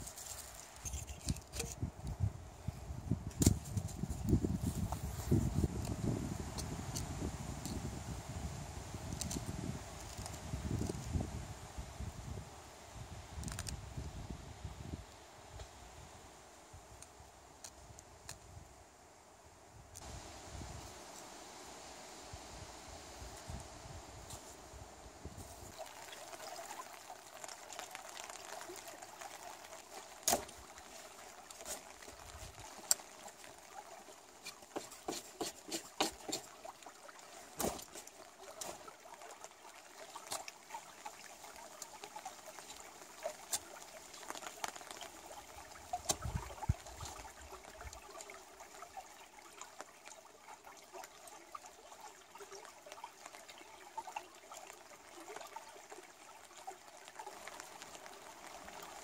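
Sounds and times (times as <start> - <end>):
stream rippling over stones: 0.0 - 59.0.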